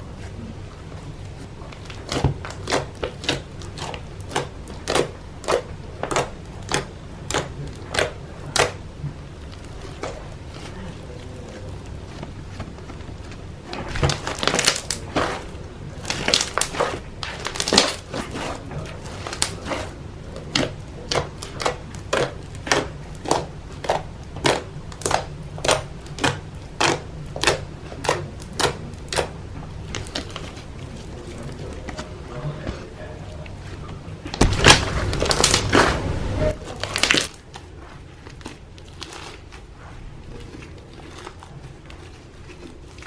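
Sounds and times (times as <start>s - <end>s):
slime squishing by hand: 0.0s - 43.0s.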